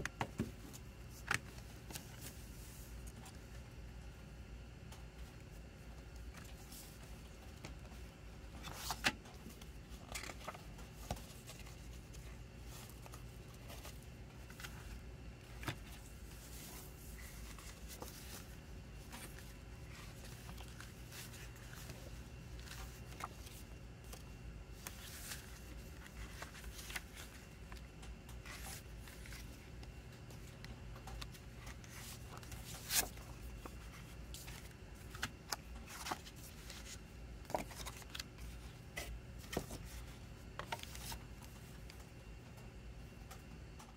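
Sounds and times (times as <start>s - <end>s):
steady low hum: 0.0s - 43.9s
paper rustling: 5.3s - 42.1s.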